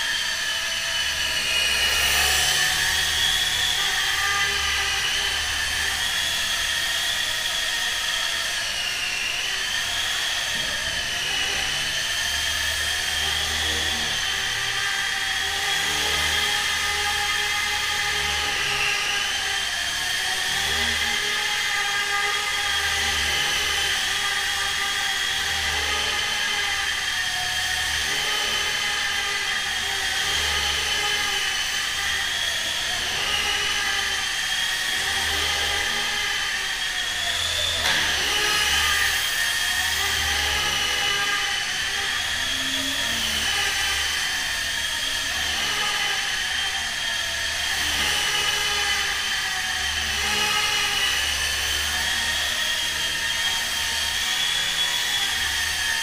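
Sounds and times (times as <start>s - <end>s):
small electric motors whining: 0.0s - 56.0s.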